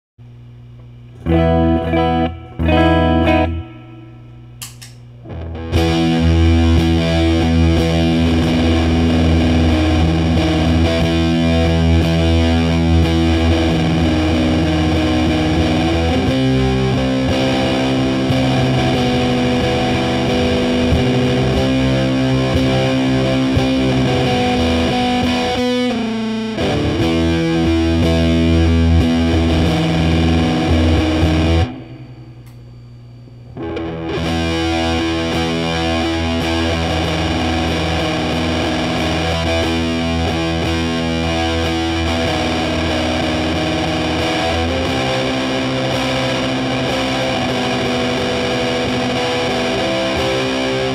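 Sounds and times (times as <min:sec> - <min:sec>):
fuzz electric guitar chords: 0:00.8 - 0:50.9.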